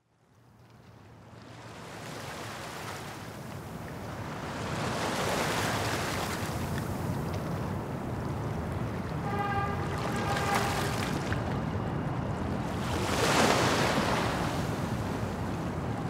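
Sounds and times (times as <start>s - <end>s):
rushing water and wind: 0.4s - 16.0s.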